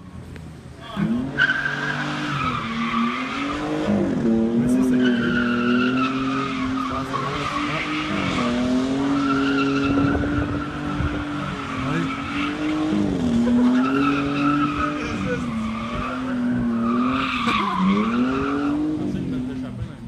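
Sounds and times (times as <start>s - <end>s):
tyres squealing on pavement: 0.8s - 19.4s
truck engine at high revs: 0.9s - 19.6s.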